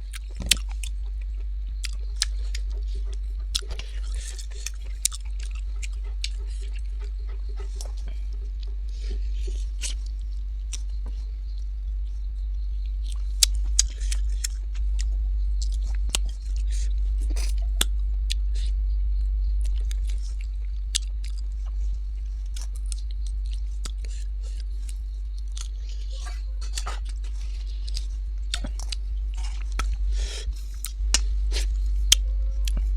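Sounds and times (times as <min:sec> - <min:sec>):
person chewing crunchy food: 0:00.0 - 0:18.7, 0:19.6 - 0:32.9
steady low hum: 0:00.0 - 0:32.9.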